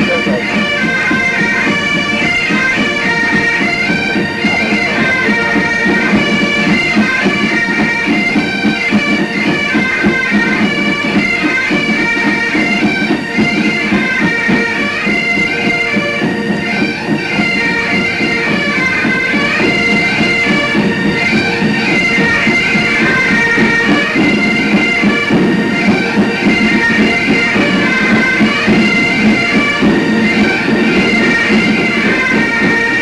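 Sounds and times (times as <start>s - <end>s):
bagpipes playing a march: 0.0s - 33.0s.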